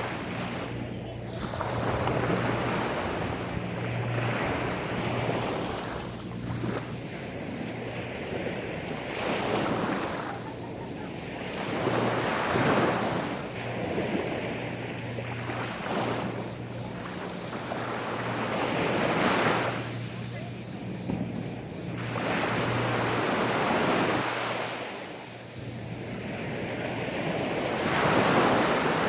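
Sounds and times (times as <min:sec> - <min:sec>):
sea waves washing on sand: 0:00.0 - 0:29.0.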